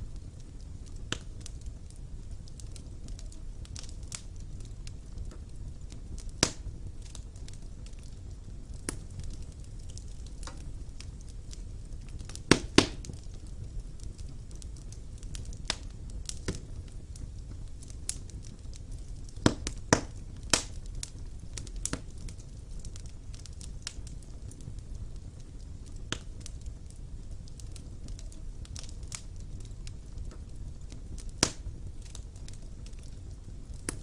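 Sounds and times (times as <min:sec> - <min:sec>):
fire flames rumbling: 0:00.0 - 0:34.0
wood fire crackling and popping: 0:00.0 - 0:34.0.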